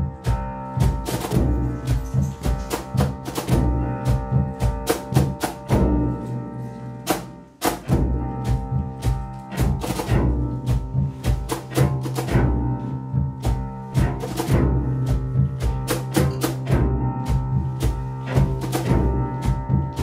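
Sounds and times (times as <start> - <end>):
bowed cello: 0.0 - 20.0
deep drum strokes with mallet: 0.0 - 20.0
drum kit: 0.0 - 20.0
piano sustained notes: 0.0 - 20.0.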